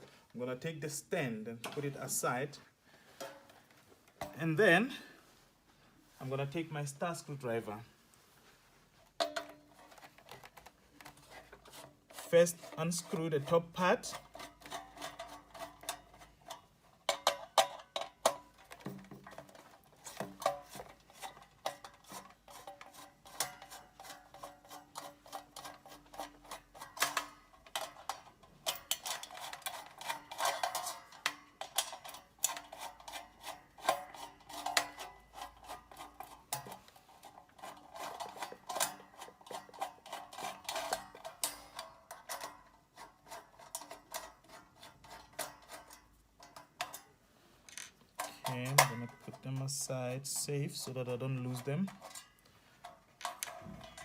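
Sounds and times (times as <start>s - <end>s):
screwdriver clicks and metallic clinks: 9.2s - 47.1s, 47.7s - 54.0s.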